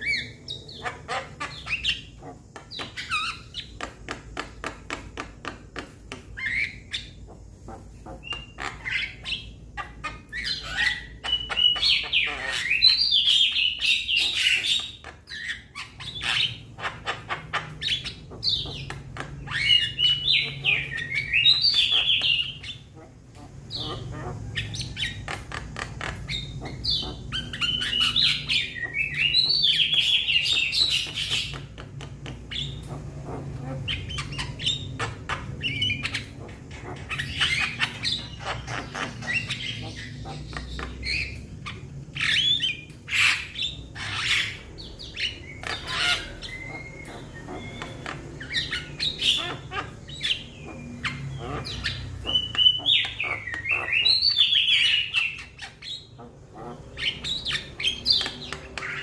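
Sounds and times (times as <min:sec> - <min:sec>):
bird squawking and chirping: 0:00.0 - 0:59.0.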